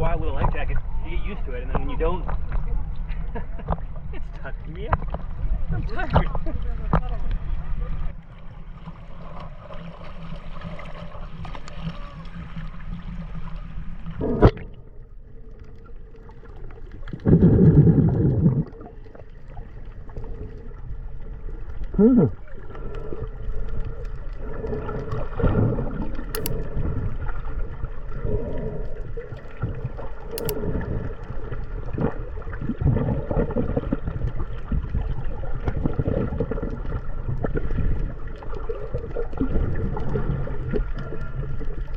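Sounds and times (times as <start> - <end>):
water sloshing and gurgling: 0.0 - 41.9.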